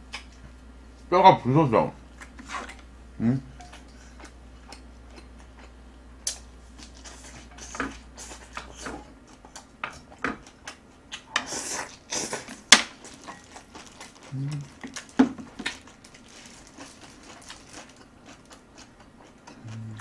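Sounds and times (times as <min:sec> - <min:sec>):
wet chewing and smacking: 0:03.7 - 0:20.0.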